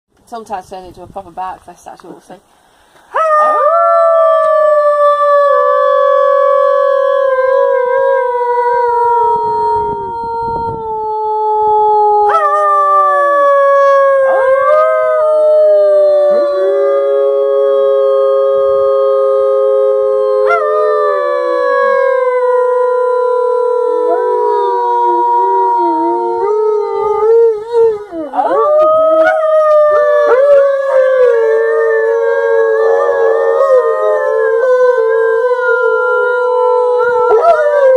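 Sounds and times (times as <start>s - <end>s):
wolves howling: 3.1s - 37.9s.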